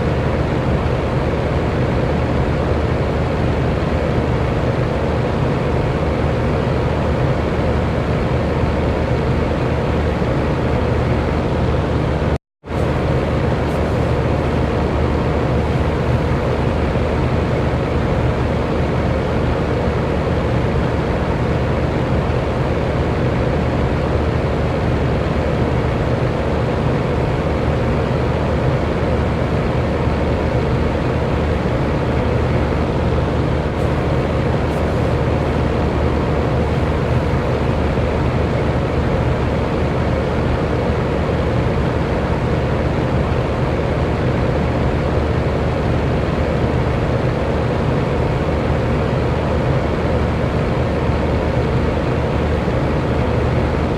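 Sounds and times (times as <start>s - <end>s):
electric fan whooshing: 0.0s - 53.9s.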